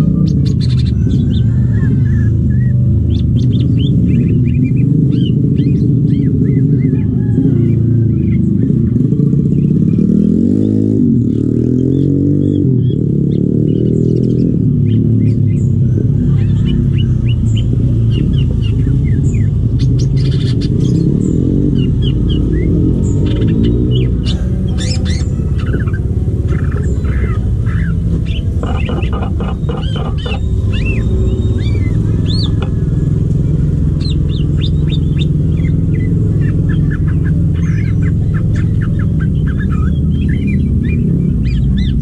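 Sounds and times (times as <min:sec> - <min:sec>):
bird chirping calls: 0:00.0 - 0:42.0
low engine-like drone: 0:00.0 - 0:42.0.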